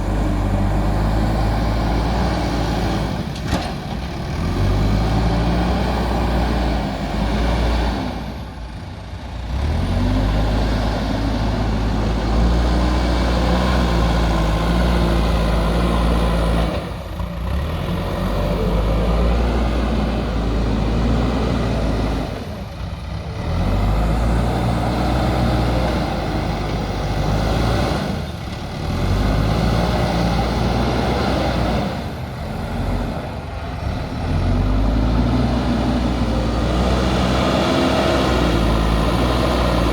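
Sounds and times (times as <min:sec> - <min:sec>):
diesel engine working under load: 0:00.0 - 0:39.9.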